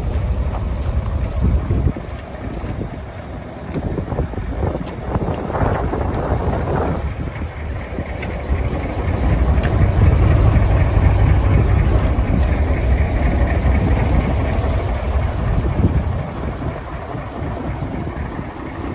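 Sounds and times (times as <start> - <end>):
diesel truck engine rumbling: 0.0 - 18.9.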